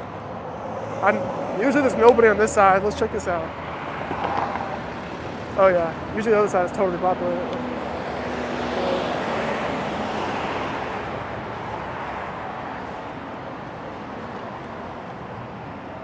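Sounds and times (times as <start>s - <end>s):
passing road traffic: 0.0s - 16.0s.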